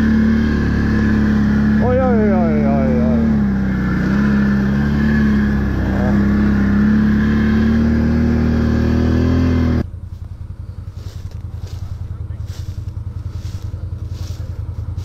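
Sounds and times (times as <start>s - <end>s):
engine idling with rapid pulsing: 0.0s - 7.6s, 9.8s - 15.0s
atv engine running: 0.0s - 15.0s.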